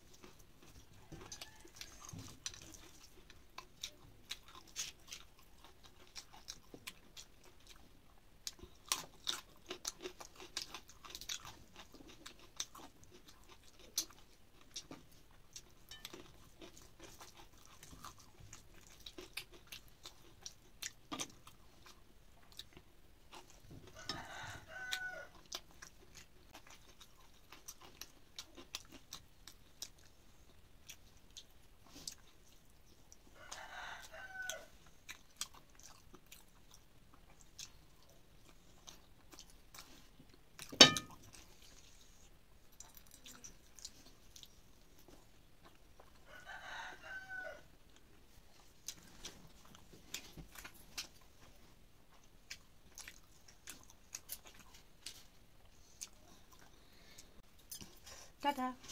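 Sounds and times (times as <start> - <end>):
chewing and crunching: 0.0 - 58.9.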